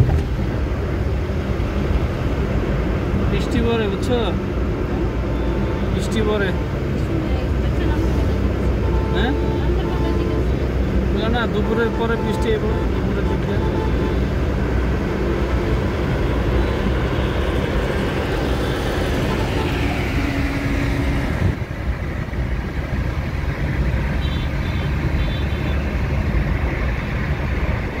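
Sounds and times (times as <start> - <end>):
car cabin road and engine noise: 0.0 - 28.0.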